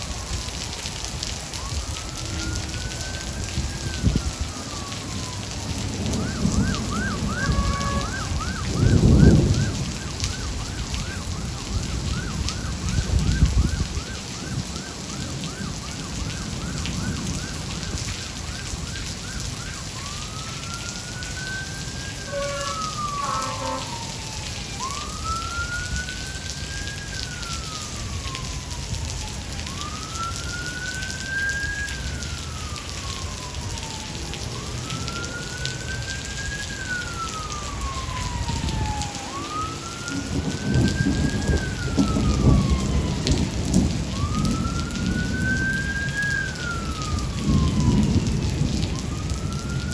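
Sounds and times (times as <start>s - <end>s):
emergency vehicle siren: 0.0s - 49.9s
steady rain: 0.0s - 49.9s
thunder rumbling: 0.0s - 49.9s.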